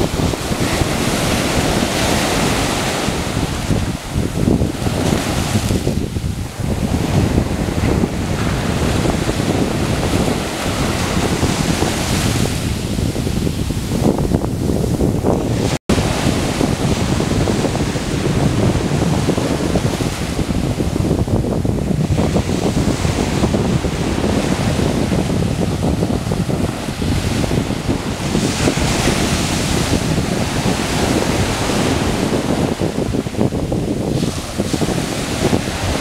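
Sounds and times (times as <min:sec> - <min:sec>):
surf washing onto shore: 0:00.0 - 0:36.0
wind buffeting microphone: 0:00.0 - 0:36.0.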